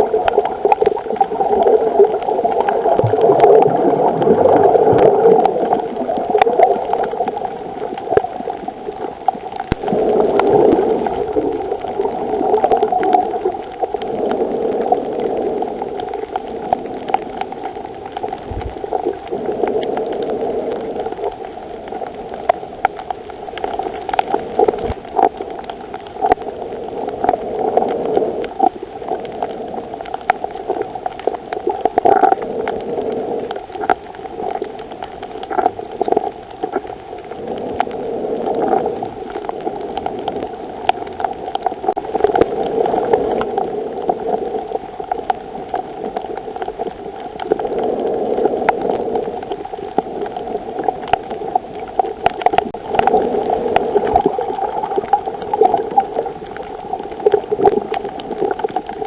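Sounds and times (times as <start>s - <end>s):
sharp clicks and crackles: 0.0s - 59.0s
underwater bubbling water: 0.0s - 59.0s.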